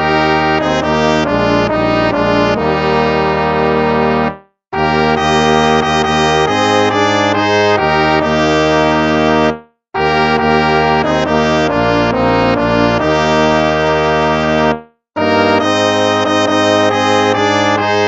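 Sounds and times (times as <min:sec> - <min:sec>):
instrumental hymn chords: 0:00.0 - 0:18.0.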